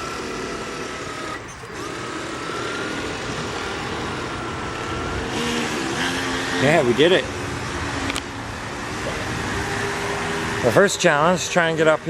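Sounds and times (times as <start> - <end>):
jet boat motor whining: 0.0 - 12.0.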